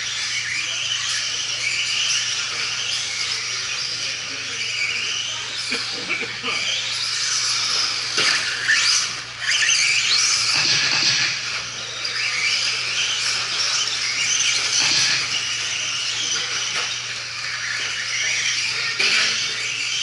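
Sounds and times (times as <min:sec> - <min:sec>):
rc truck motors whining: 0:00.0 - 0:20.0.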